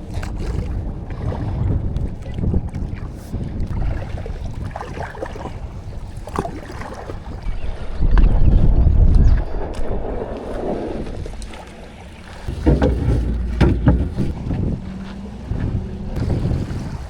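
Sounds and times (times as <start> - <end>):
water lapping against a hull: 0.0 - 17.0
wind on microphone: 0.0 - 17.0.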